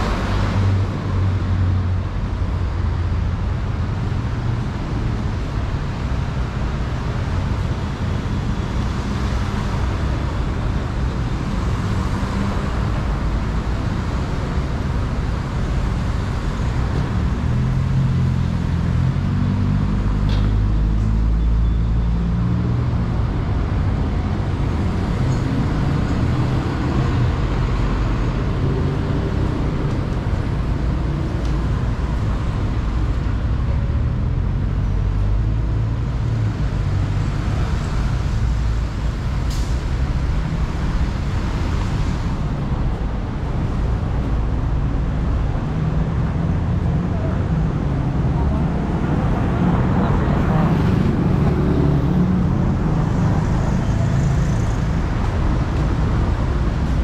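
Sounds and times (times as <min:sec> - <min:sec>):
traffic rumble with tyre noise: 0:00.0 - 0:57.0.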